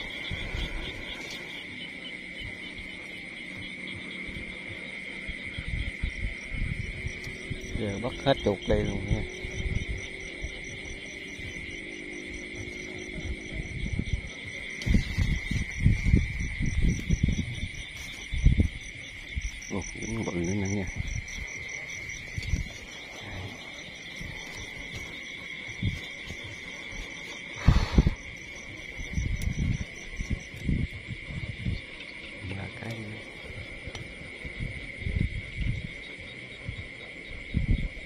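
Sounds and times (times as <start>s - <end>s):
crickets and insects chirping: 0.0s - 38.0s.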